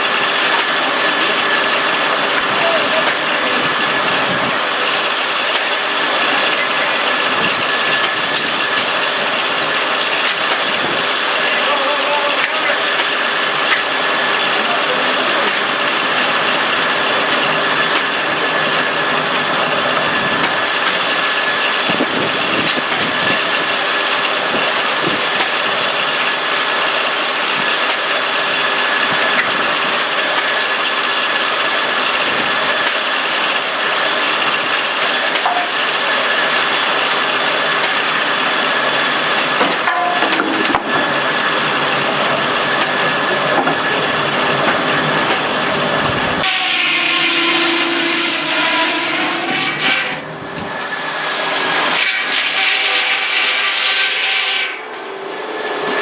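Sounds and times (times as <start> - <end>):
circular saw cutting log: 0.0 - 56.0.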